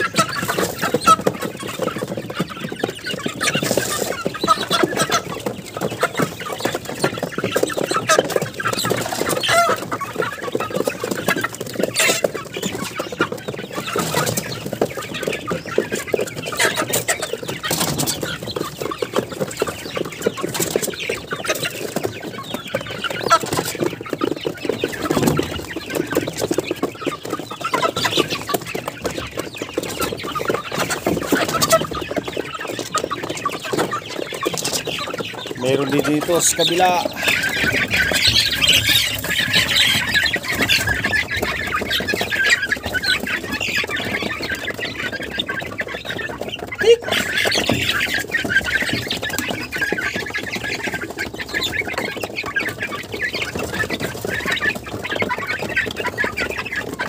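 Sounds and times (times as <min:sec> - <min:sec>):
young chickens clucking: 0:00.0 - 0:57.0.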